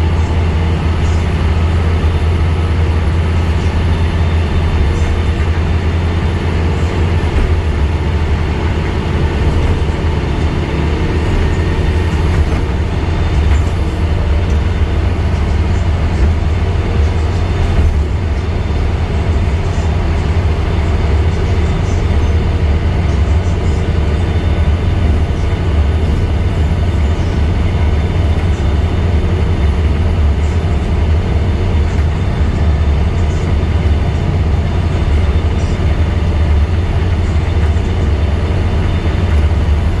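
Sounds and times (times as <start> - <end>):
bus diesel engine rumbling: 0.0 - 40.0
road noise: 0.0 - 40.0.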